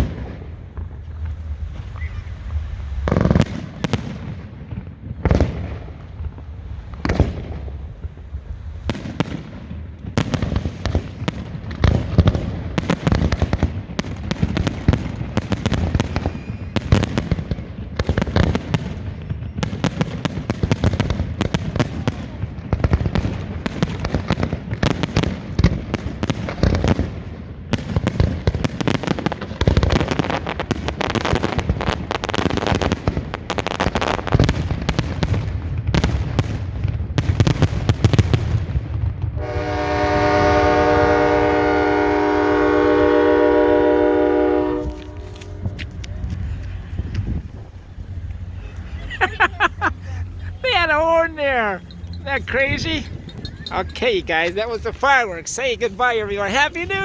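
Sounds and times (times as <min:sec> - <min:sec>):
fireworks booming and crackling: 0:00.0 - 0:57.0.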